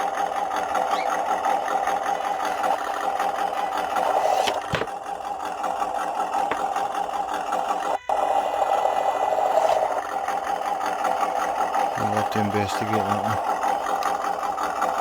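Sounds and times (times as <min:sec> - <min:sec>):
simulated truck engine chugging: 0:00.0 - 0:15.0.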